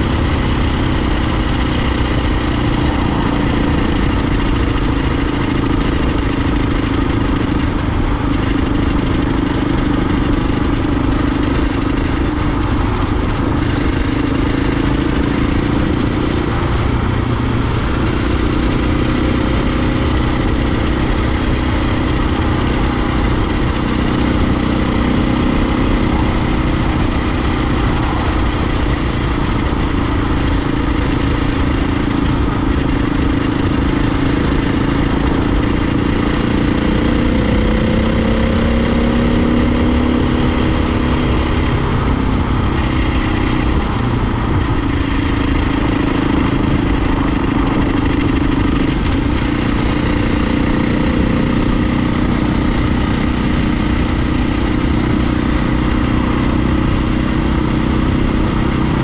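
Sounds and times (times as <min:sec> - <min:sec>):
dirt bike engine running: 0:00.0 - 0:59.0
wind rumble on microphone: 0:00.0 - 0:59.0.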